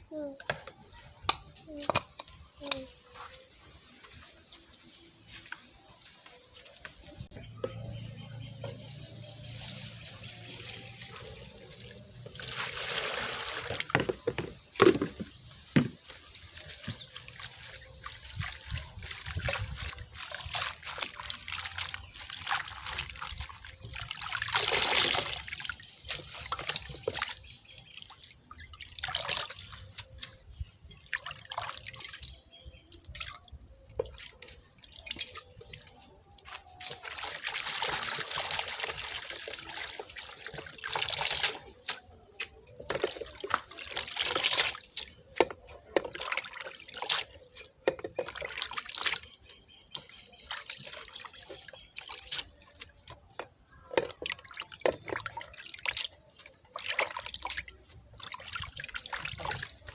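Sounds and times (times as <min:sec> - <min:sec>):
water sloshing and trickling: 0:00.1 - 0:59.9
water pouring and splashing: 0:01.0 - 0:59.9.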